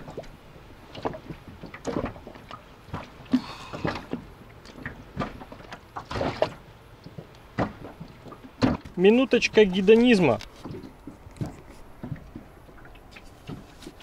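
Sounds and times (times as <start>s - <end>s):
small waves slapping a hull: 0.0s - 14.0s.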